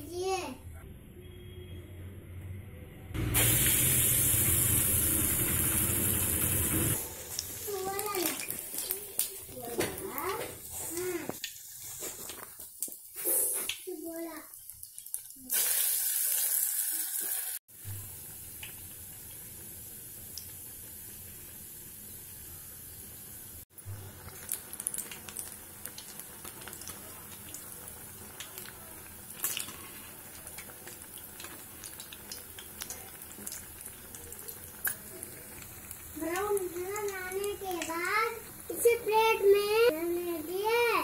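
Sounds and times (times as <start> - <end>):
deep-frying sizzling hiss: 3.2 - 41.0.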